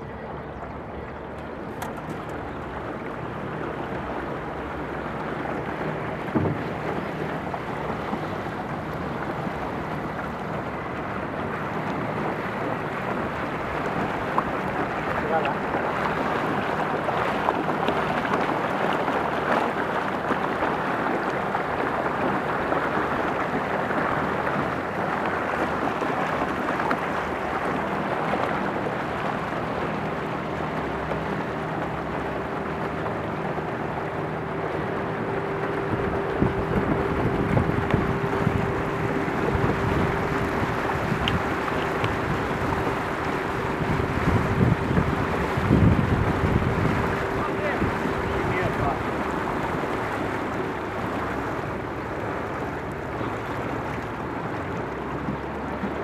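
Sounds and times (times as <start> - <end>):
boat motor running: 0.0 - 56.0
water rushing along hull: 0.0 - 56.0
wind buffeting microphone: 0.0 - 56.0.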